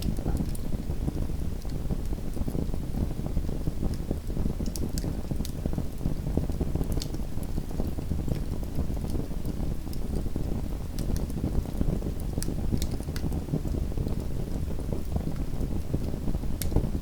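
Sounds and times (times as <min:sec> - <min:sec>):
flames rumbling: 0:00.0 - 0:17.0
soft crackles of fire: 0:00.0 - 0:17.0.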